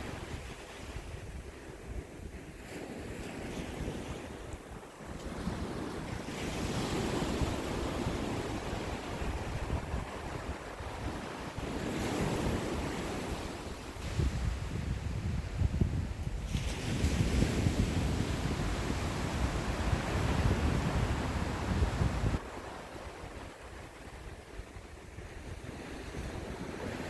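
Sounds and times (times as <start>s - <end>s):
waves washing onto shore: 0.0s - 27.0s
wind rumbling on microphone: 0.0s - 27.0s.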